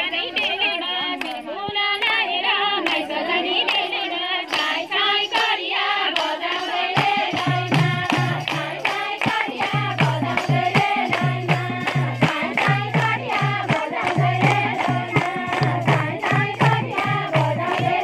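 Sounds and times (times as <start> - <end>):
women singing folk song: 0.0 - 18.0
hand claps: 1.2 - 2.2, 2.8 - 3.1, 4.5 - 18.0.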